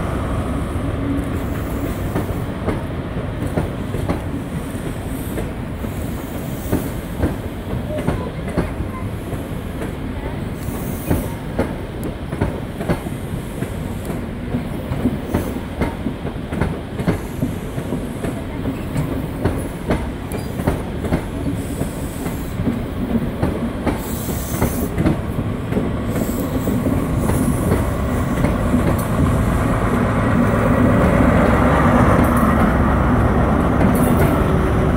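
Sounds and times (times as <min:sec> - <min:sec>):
diesel locomotive engine: 0:00.0 - 0:34.9
low rumble of train: 0:00.0 - 0:34.9
train wheels clicking over rail joints: 0:01.2 - 0:34.6.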